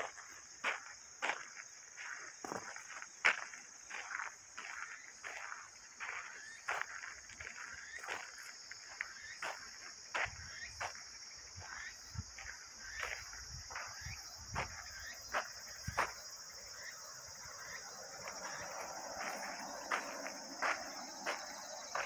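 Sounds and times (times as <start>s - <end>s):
footsteps on dirt path: 0.0s - 22.0s
high-pitched insect chorus: 0.0s - 22.0s.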